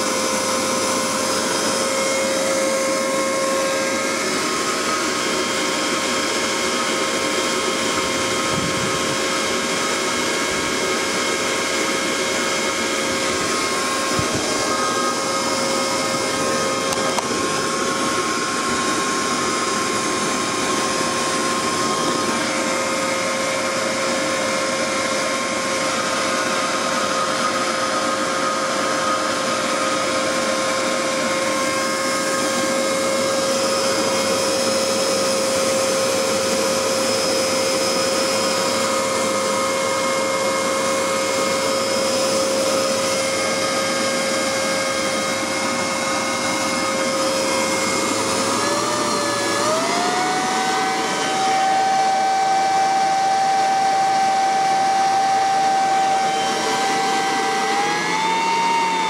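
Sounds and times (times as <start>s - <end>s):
leaf blower whining: 0.0s - 59.0s.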